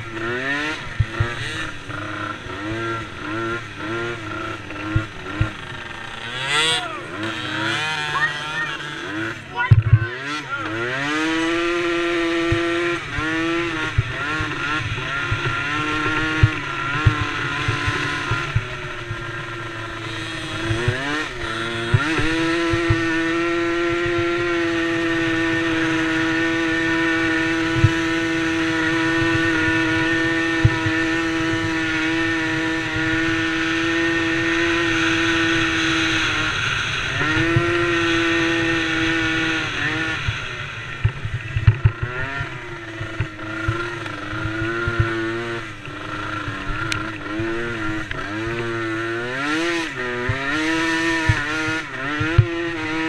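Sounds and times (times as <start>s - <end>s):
quad bike engine revving: 0.0s - 53.0s.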